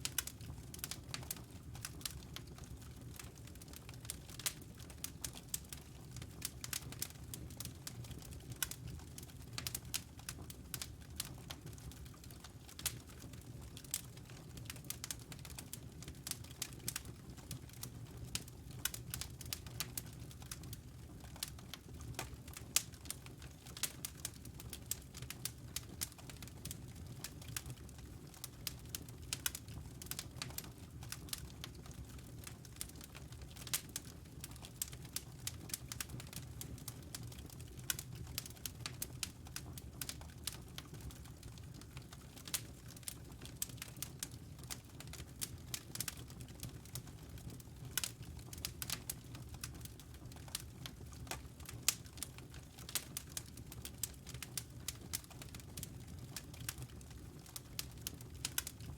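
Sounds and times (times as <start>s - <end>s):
campfire crackling: 0.0s - 2.5s, 3.6s - 12.0s, 12.7s - 20.6s, 21.3s - 58.9s
low rumble of burning wood: 0.0s - 58.9s.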